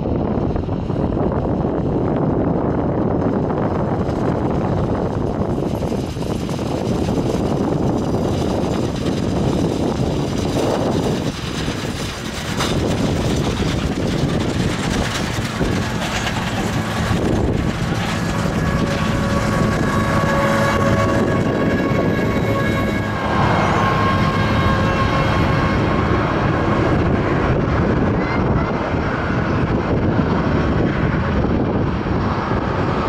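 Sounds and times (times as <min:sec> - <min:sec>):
jet airliner engines whining: 0:00.0 - 0:33.0
wind buffeting microphone: 0:00.0 - 0:33.0.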